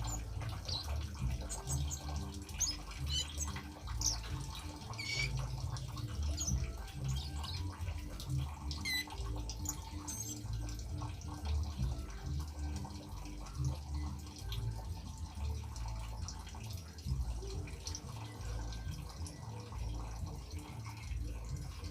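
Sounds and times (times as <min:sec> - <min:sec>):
water trickling and dripping: 0:00.0 - 0:21.9.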